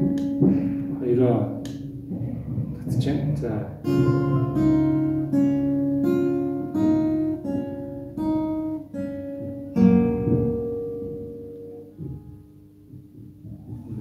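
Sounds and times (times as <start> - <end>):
acoustic guitar arpeggio: 0.0 - 12.6
guitar chord ringing: 0.0 - 13.0.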